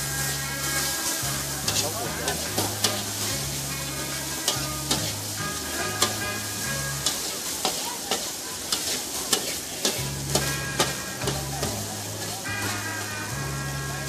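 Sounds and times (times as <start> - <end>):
food sizzling: 0.0 - 14.0
metal ladle scraping a wok: 0.0 - 14.0.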